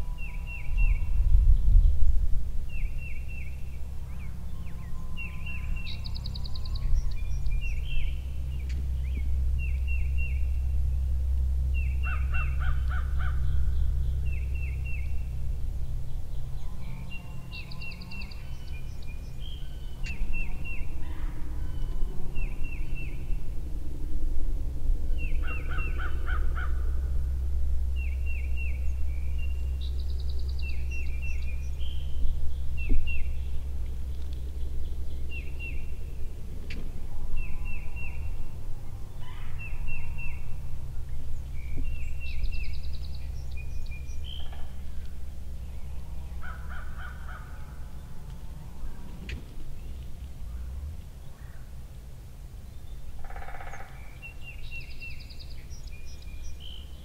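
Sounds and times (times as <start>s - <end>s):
wild birds calling: 0.0s - 2.0s, 2.6s - 57.0s
steady low rumble: 0.0s - 57.0s.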